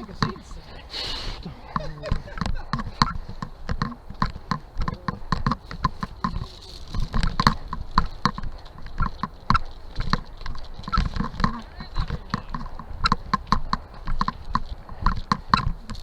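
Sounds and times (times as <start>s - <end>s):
low thumps: 0.0s - 16.0s
rapid clicks and knocks: 1.7s - 16.0s.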